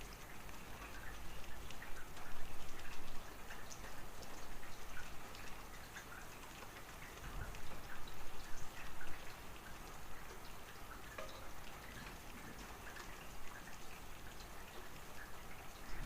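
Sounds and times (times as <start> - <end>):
rain falling: 0.0 - 16.0
raindrops ticking: 0.0 - 16.0.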